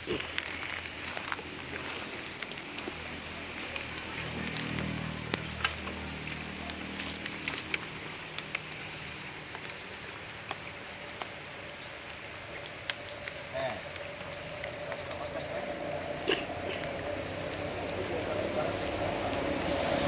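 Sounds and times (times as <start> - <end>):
rain falling: 0.0 - 20.0
sharp taps of raindrops: 0.0 - 20.0.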